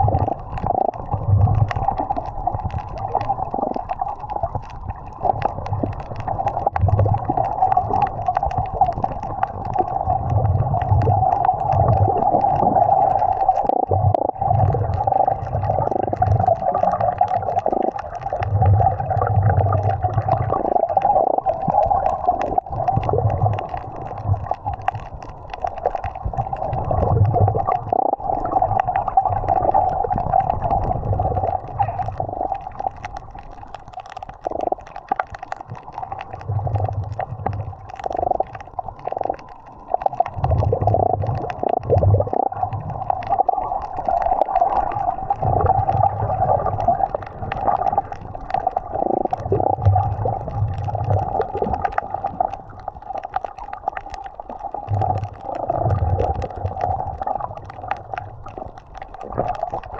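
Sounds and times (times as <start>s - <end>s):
underwater rumbling and gurgling: 0.0s - 59.9s.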